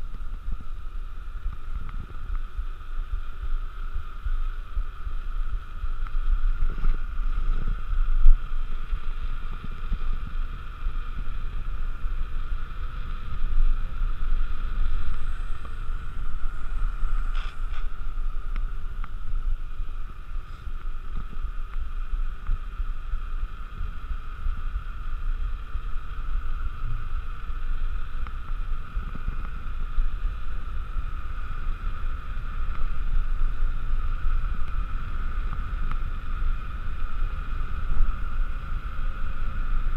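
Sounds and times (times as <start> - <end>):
bicycle wheels whirring: 0.0 - 39.9
wind buffeting microphone: 0.0 - 39.9.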